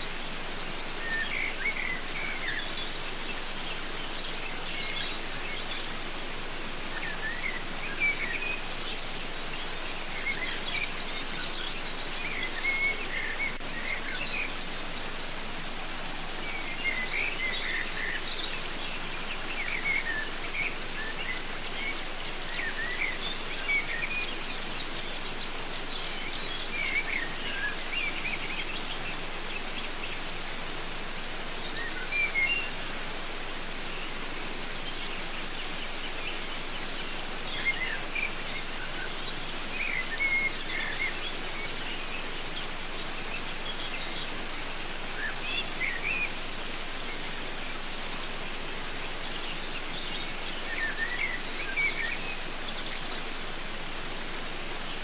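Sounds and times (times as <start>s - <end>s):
small birds chirping: 0.0s - 55.0s
waterfall rushing: 0.0s - 55.0s.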